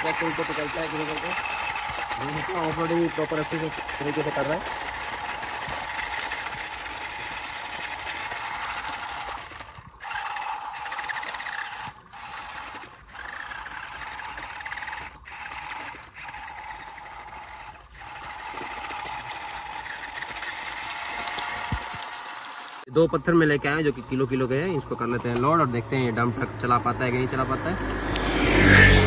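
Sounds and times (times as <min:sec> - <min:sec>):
electric motor and gears whirring: 0:00.0 - 0:29.0.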